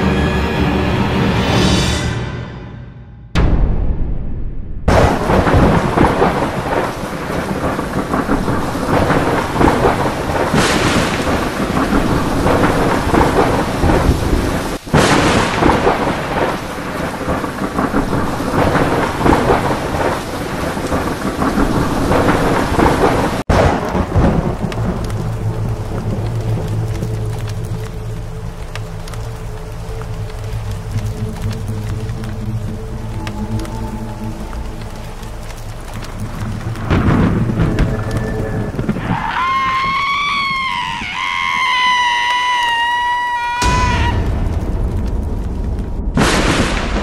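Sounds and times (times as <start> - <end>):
thunder rumbling: 3.4 - 47.0
heavy rain pouring: 4.9 - 47.0.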